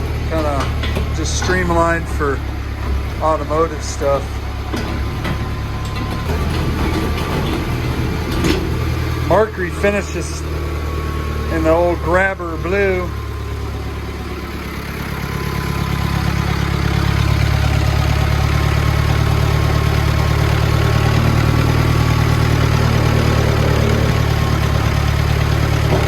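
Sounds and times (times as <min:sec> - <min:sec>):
forklift diesel engine running: 0:00.0 - 0:26.0.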